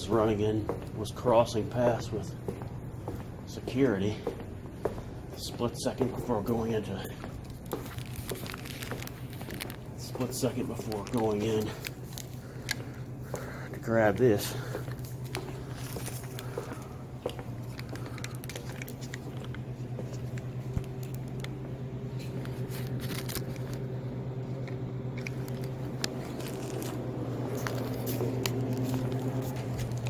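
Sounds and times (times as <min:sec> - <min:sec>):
steady low hum: 0:00.0 - 0:30.0
handling clicks and rustles: 0:05.3 - 0:30.0.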